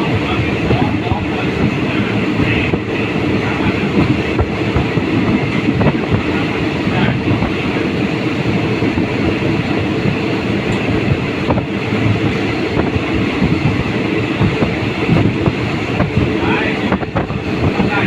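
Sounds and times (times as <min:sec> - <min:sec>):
train wheels on rail: 0:00.0 - 0:18.0.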